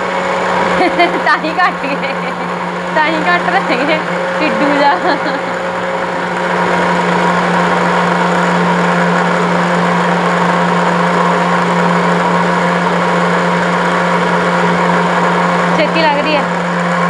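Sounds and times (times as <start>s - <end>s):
mixer grinder motor hum: 0.0s - 17.0s.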